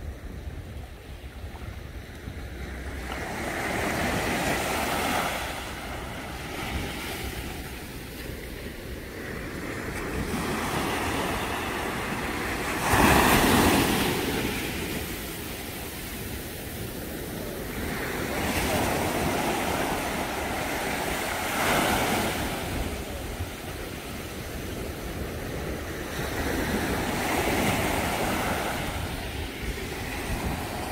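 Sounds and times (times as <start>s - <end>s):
small waves breaking on sand: 1.0s - 30.9s.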